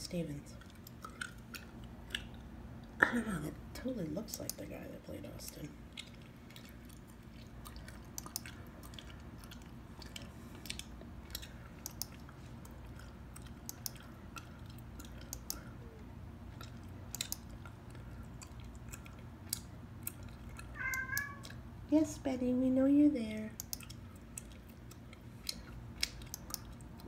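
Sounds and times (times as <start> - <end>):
steady low hum: 0.0 - 27.0
gum chewing smacks: 0.6 - 3.0, 5.8 - 21.7, 23.6 - 27.0.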